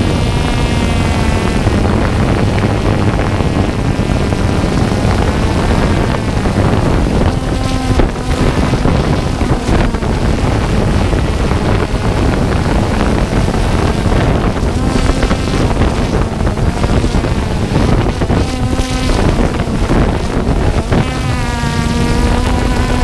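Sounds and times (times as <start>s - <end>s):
drone propellers whirring: 0.0s - 23.0s
wind buffeting microphone: 0.0s - 23.0s.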